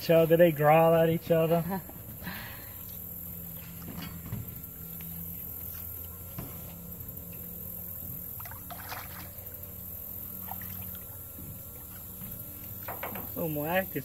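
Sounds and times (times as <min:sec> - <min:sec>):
airboat engine idling: 0:00.0 - 0:14.0.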